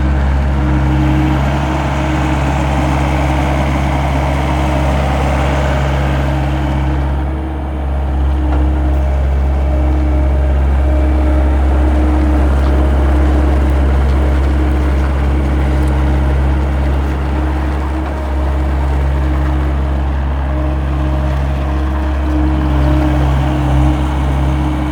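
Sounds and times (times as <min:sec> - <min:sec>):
track loader diesel engine running: 0:00.0 - 0:24.9.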